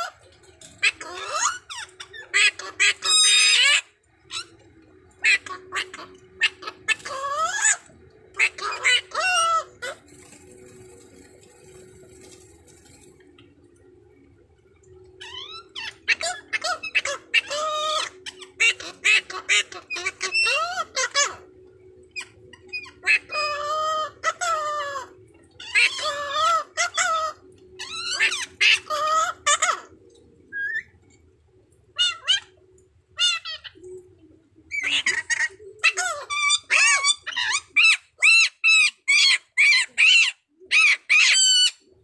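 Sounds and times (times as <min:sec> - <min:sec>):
parrots squawking: 0:00.0 - 0:13.7, 0:15.0 - 0:31.0, 0:31.9 - 0:33.9, 0:34.5 - 0:42.0.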